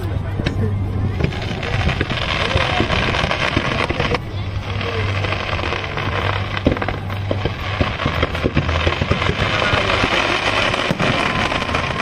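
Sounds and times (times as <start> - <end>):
fireworks popping and banging: 0.4 - 12.0.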